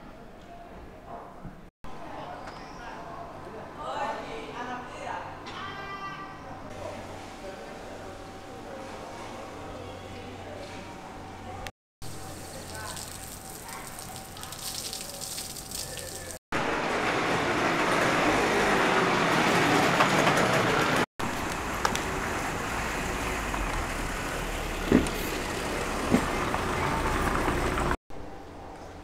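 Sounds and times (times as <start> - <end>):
street traffic noise: 5.3 - 29.0.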